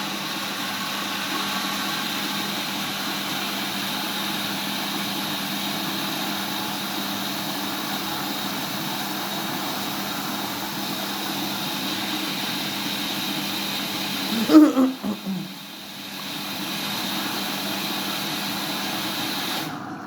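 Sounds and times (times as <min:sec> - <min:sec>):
washing machine hiss and hum: 0:00.0 - 0:20.0.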